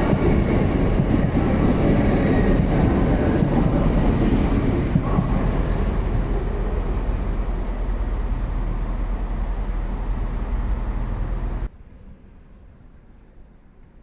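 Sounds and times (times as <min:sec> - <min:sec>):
outdoor background noise: 0:00.0 - 0:14.0
train rumbling: 0:00.0 - 0:14.0.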